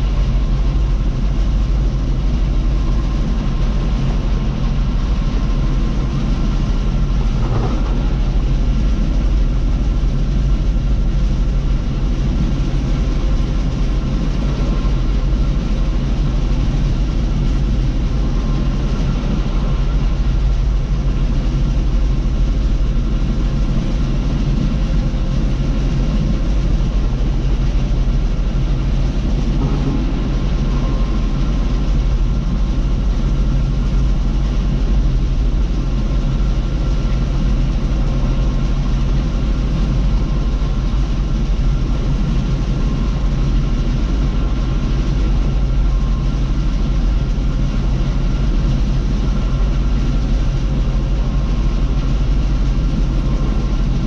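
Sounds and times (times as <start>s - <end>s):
combine harvester engine drone: 0.0s - 54.0s
machinery humming: 0.0s - 54.0s.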